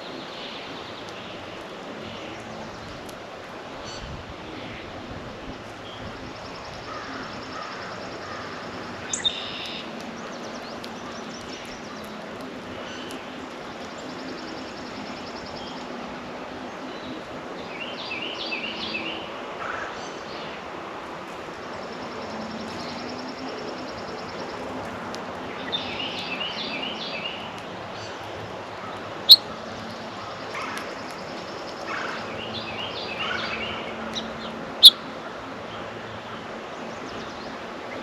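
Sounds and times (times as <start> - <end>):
outdoor background hiss: 0.0 - 38.0
songbirds chirping: 0.0 - 38.0.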